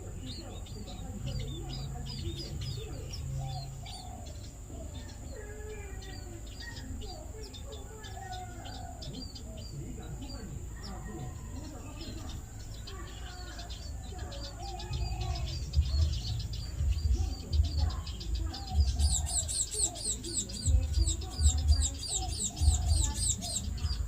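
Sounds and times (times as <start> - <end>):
sparrows chirping: 0.0 - 24.0.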